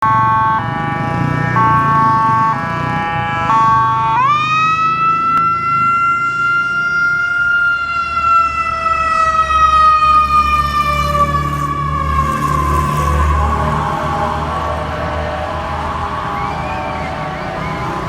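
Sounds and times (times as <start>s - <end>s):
ambulance siren: 0.0s - 18.0s.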